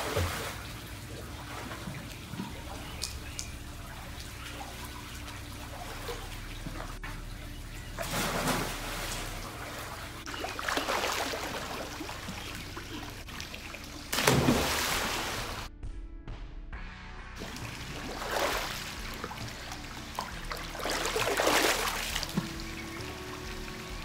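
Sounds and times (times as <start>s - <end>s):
pool water splashing: 0.0s - 15.7s, 17.4s - 24.0s.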